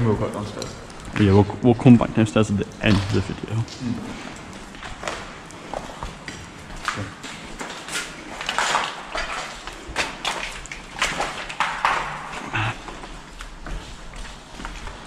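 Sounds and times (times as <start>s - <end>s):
footsteps on cluttered stairs: 2.9s - 15.0s.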